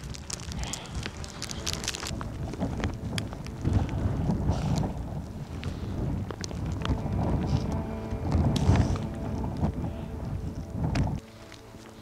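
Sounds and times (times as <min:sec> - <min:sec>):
wind gusting on microphone: 0:00.0 - 0:12.0.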